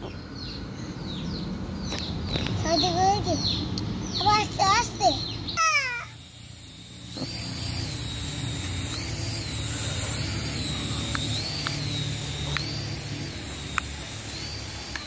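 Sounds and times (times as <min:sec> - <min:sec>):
toy helicopter rotors whining: 0:00.0 - 0:15.0.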